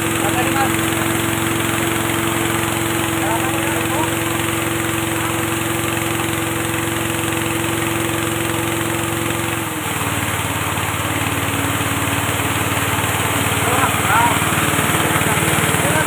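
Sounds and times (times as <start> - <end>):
milling machine humming: 0.0 - 16.0.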